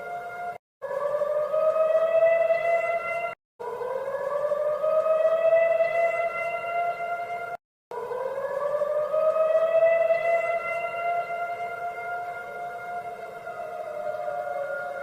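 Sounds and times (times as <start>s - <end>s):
emergency alert siren: 0.0s - 15.0s.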